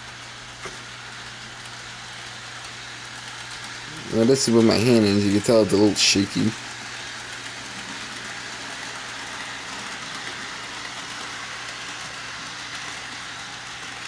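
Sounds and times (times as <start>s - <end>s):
model train whirring on rails: 0.0s - 14.0s.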